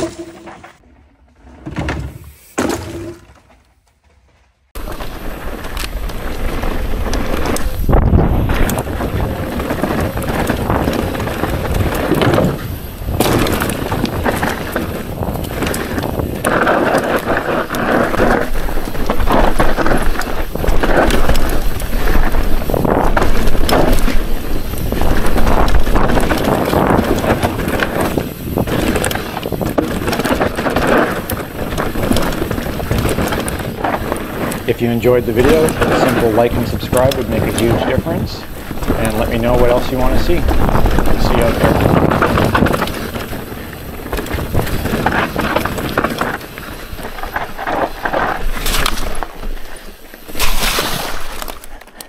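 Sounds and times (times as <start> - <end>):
bike tyres rumbling over dirt: 0.0 - 52.0
bicycle chain and frame rattling: 4.8 - 52.0.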